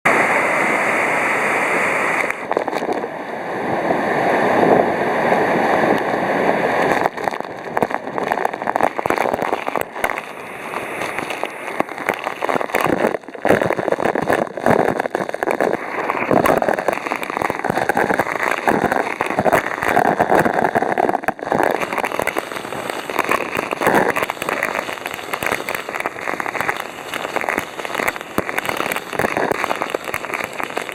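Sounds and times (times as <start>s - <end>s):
river water rushing: 0.1s - 30.9s.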